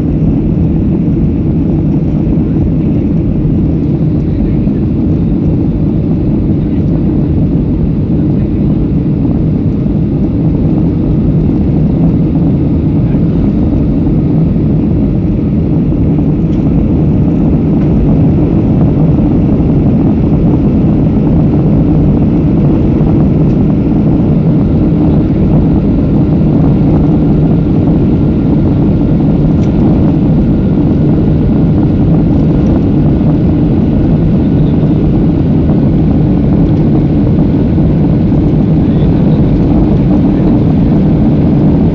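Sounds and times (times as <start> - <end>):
jet engine rumble in cabin: 0.0 - 41.9.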